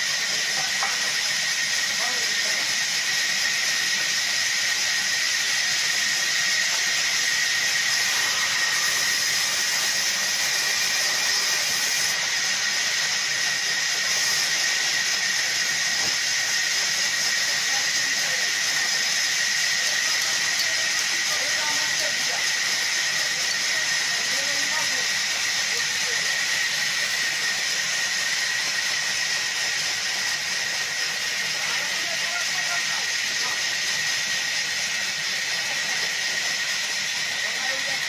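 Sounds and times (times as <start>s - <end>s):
band saw cutting log: 0.0s - 38.0s.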